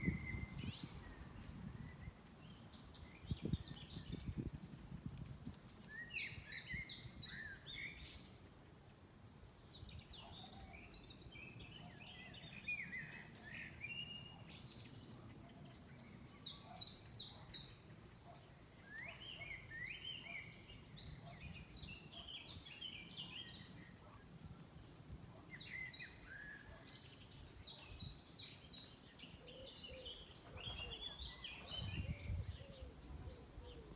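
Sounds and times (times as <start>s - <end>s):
songbird singing: 0.0s - 33.9s
wind in tree: 0.0s - 33.9s.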